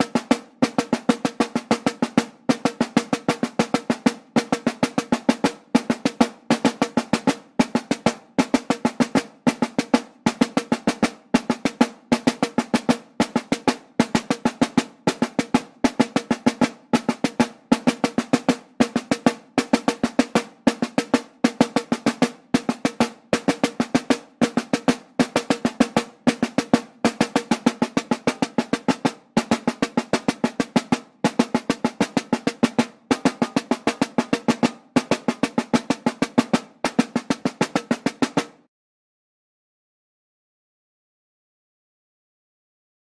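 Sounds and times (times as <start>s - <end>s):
fast snare drum pattern: 0.0s - 38.7s.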